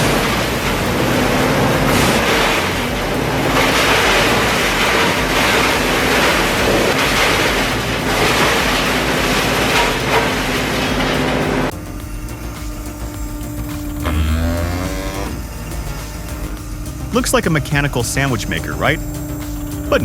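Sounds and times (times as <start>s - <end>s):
loud rushing noise: 0.0s - 20.0s
wood chipper engine drone: 0.0s - 20.0s.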